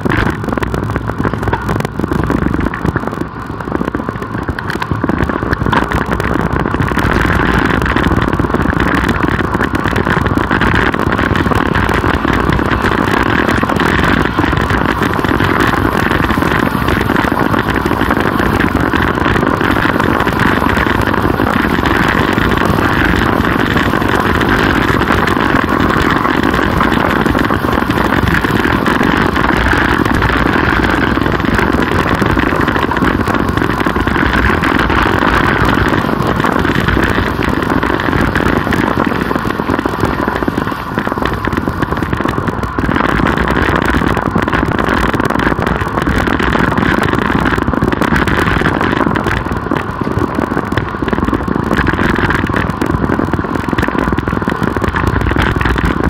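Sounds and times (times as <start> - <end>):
tyres on road: 0.0 - 56.0
wind rushing on microphone: 0.0 - 56.0.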